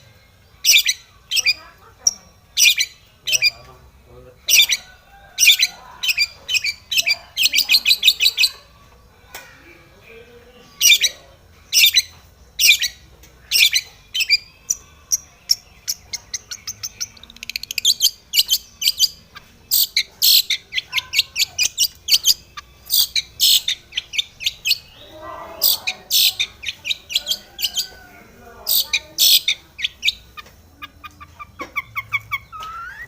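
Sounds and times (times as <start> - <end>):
bird singing harsh chattering calls: 0.0 - 8.7, 10.7 - 33.0.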